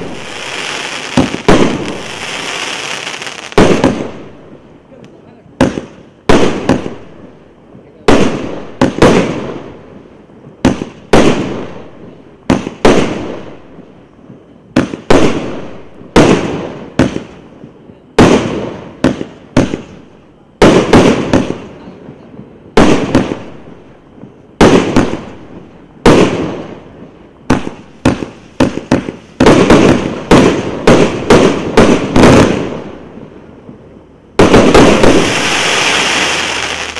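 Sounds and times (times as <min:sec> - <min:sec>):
fireworks bangs with crackle: 0:00.0 - 0:36.9
loud continuous crackling hiss: 0:00.0 - 0:36.9.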